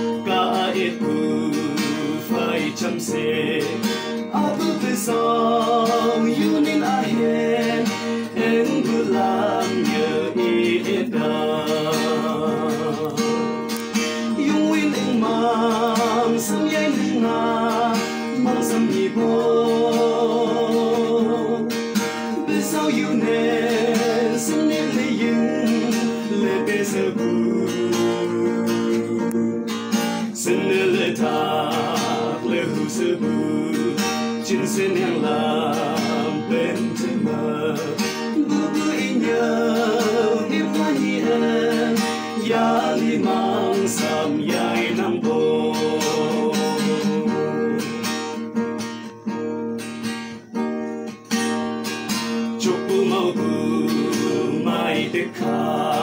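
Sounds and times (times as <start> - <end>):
people singing: 0.0 - 49.1, 51.4 - 56.0
strummed acoustic guitar: 0.0 - 56.0.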